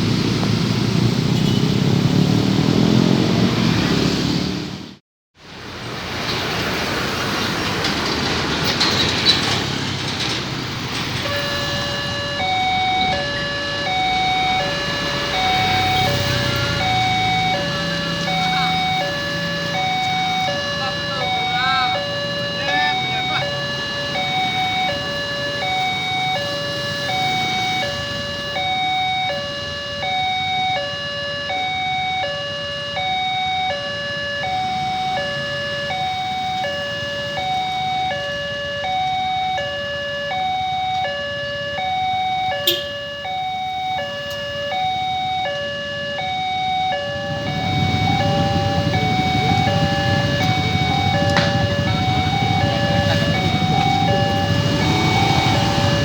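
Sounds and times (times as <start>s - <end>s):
level crossing two-tone siren: 11.1s - 56.0s.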